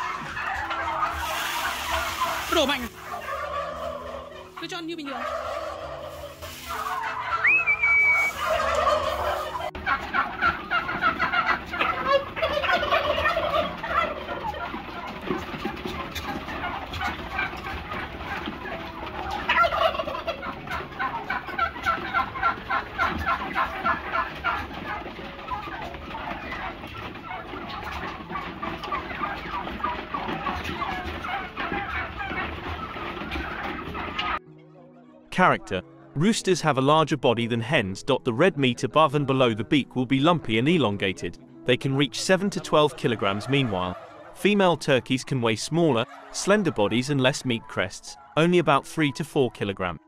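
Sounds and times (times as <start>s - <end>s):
flock of turkeys gobbling: 0.0s - 34.5s, 38.4s - 41.2s, 41.8s - 49.9s.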